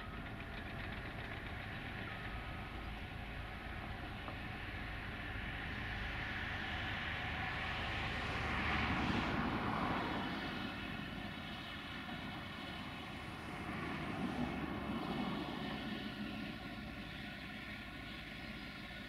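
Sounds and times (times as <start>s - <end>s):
truck diesel engines droning: 0.0s - 19.0s.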